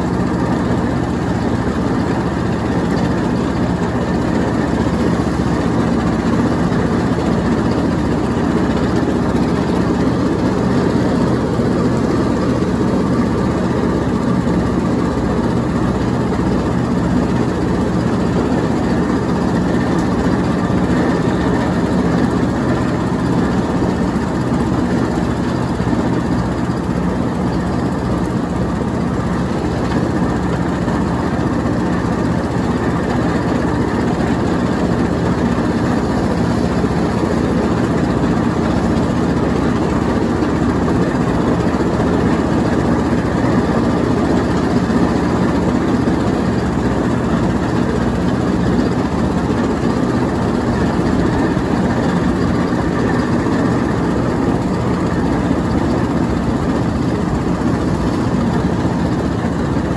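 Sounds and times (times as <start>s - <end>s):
riding lawn mower engine running: 0.0s - 59.9s.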